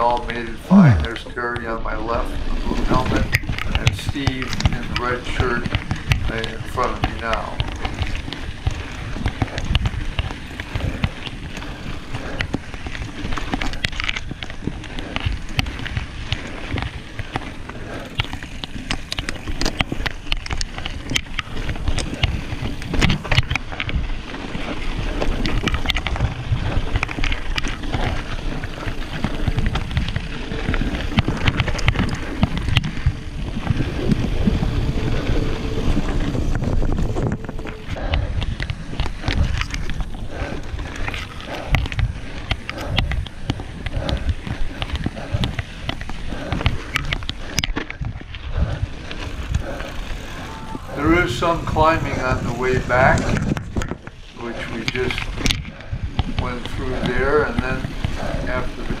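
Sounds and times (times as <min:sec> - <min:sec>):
tyres crunching over gravel: 0:00.0 - 0:55.5
bike clicks and rattles: 0:00.0 - 0:59.0
wind rumbling on microphone: 0:00.0 - 0:59.0.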